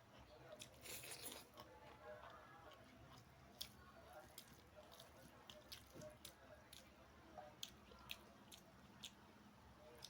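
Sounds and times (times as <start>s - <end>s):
chewing food: 0.0s - 10.0s.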